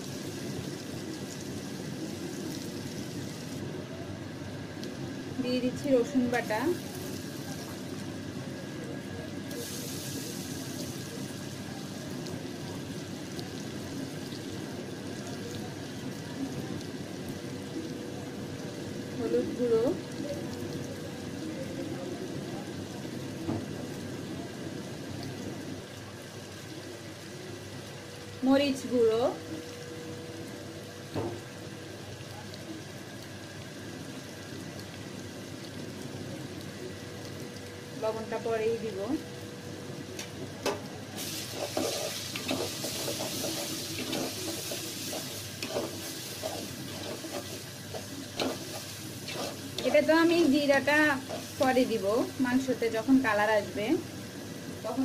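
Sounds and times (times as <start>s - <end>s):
onions sizzling in hot oil: 0.0s - 55.0s.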